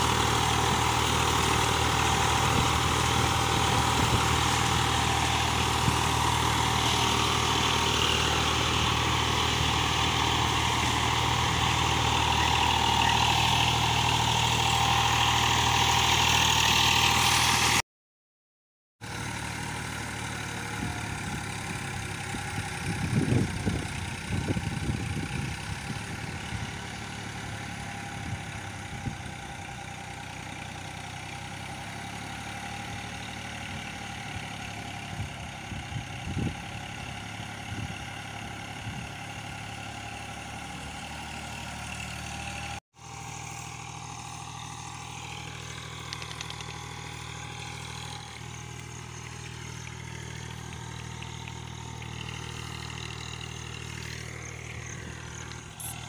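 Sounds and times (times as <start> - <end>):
tractor diesel engine running: 0.0 - 17.8, 19.0 - 56.0.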